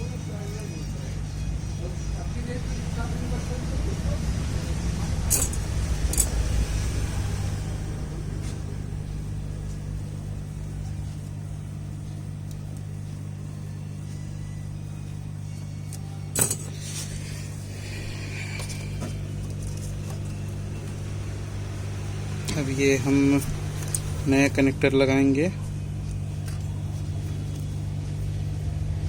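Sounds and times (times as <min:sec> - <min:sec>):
hot air blower humming: 0:00.0 - 0:29.0.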